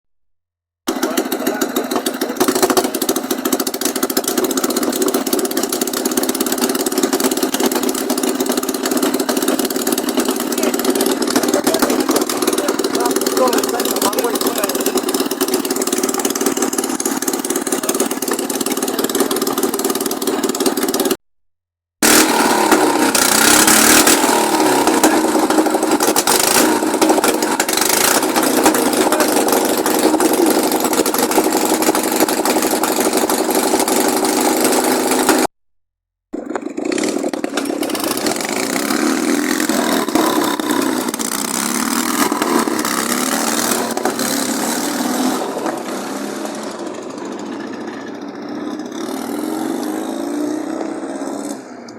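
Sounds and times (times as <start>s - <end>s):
motorcycle engine revving and sputtering: 0.9s - 21.2s, 22.0s - 35.6s, 36.3s - 51.9s.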